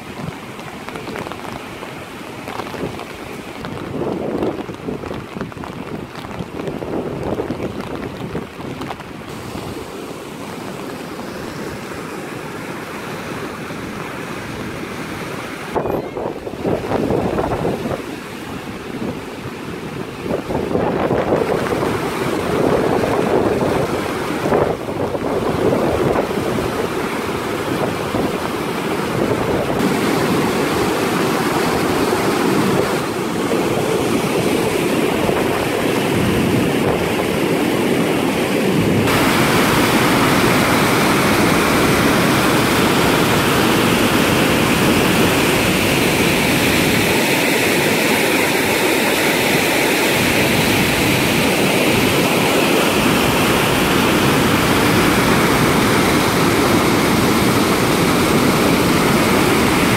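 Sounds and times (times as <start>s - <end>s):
floodwater rushing through channel: 0.0s - 59.9s.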